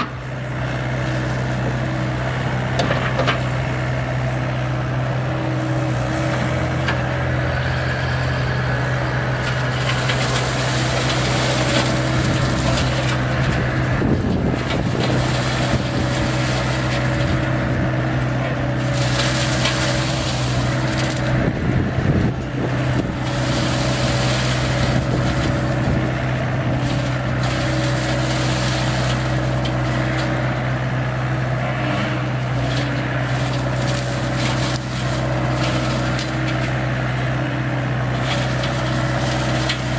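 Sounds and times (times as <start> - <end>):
diesel engine drone: 0.0 - 39.9
mulcher grinding through brush: 0.0 - 39.9.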